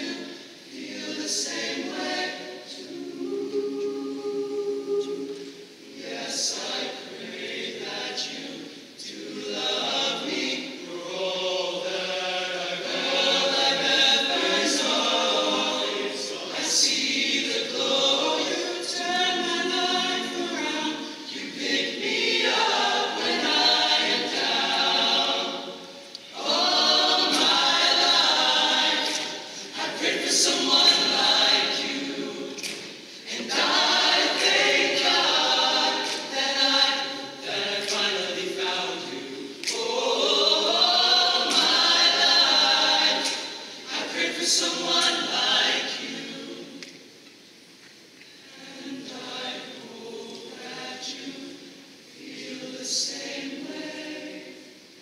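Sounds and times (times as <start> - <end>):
male choir singing: 0.0 - 46.8, 48.5 - 54.9.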